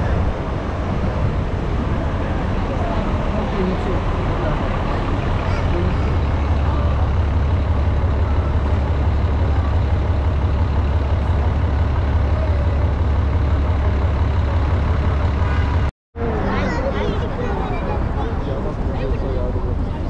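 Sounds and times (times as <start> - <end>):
bus engine rumbling: 0.0 - 20.0
street traffic: 0.0 - 20.0.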